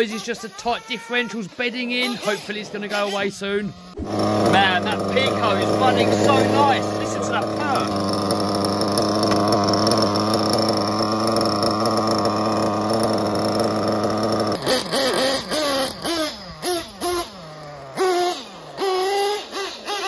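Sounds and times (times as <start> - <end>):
model car engine idling and revving: 0.0 - 20.0.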